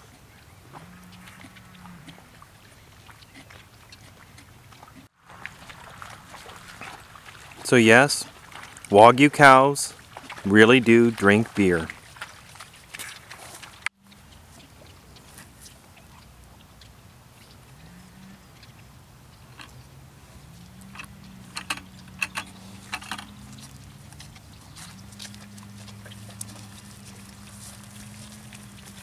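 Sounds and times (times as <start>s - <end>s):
cattle slurping from plastic bucket: 0.0s - 29.0s.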